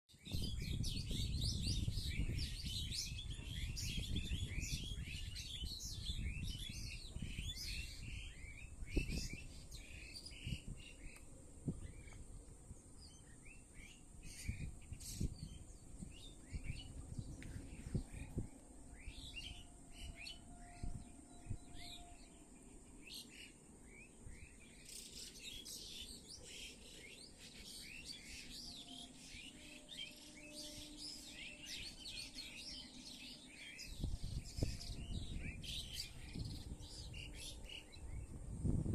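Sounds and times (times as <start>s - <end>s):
small birds chirping: 0.1s - 38.9s.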